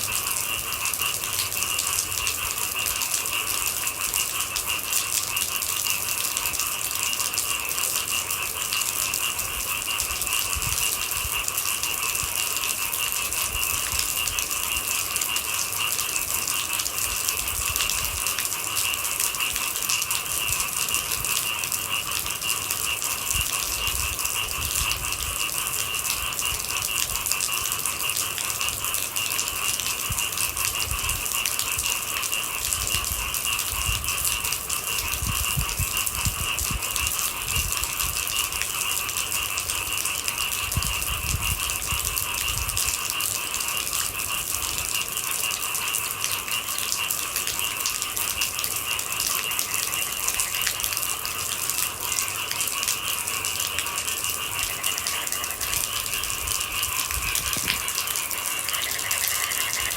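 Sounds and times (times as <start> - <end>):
chorus of night animals: 0.0 - 59.9
steady rain patter: 0.0 - 59.9.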